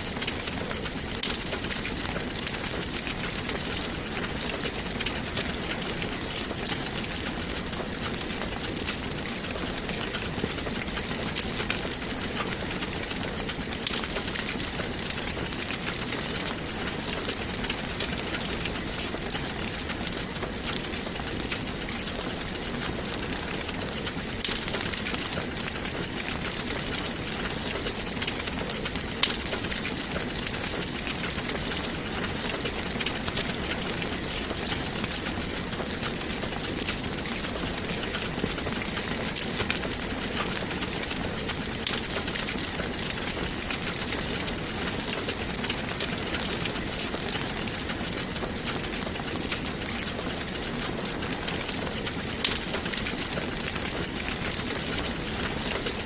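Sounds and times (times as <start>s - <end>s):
wood fire burning: 0.0s - 56.0s.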